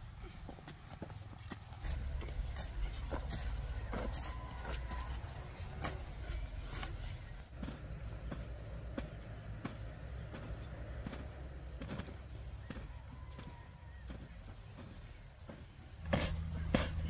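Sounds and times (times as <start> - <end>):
hoes chopping into dry soil: 0.2 - 17.0.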